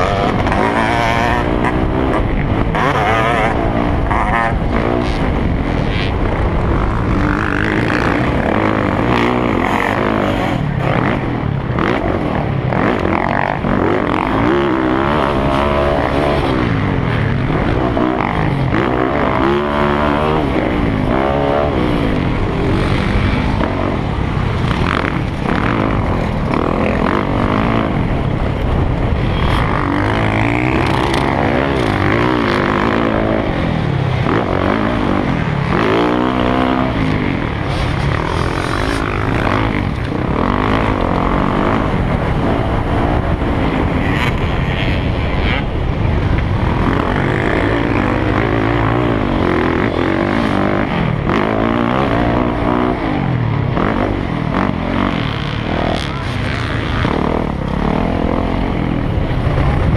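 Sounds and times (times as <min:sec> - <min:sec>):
dirt bike engine revving: 0:00.0 - 0:59.9
wind noise on microphone: 0:00.0 - 0:59.9.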